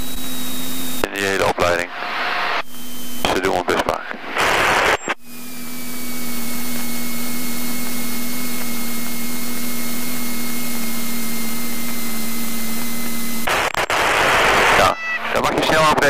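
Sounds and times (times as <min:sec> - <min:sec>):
aircraft engine noise: 0:00.0 - 0:16.0.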